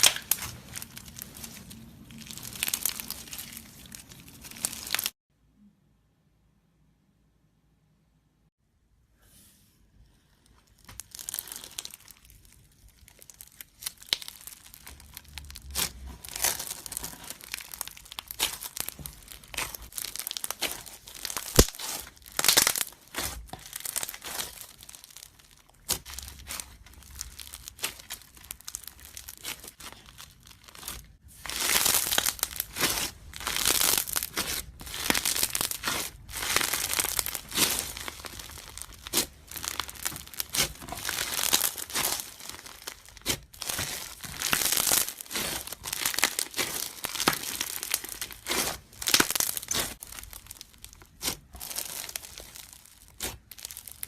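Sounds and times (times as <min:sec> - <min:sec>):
slime crackling and popping: 0:00.0 - 0:05.2, 0:10.6 - 0:54.0.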